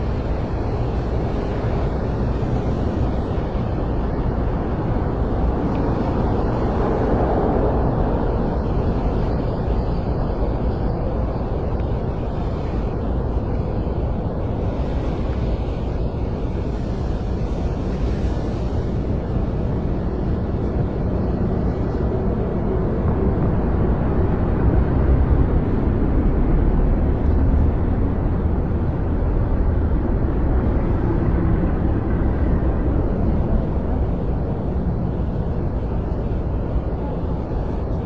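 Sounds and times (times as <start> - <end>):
low rumbling city noise: 0.0 - 38.0.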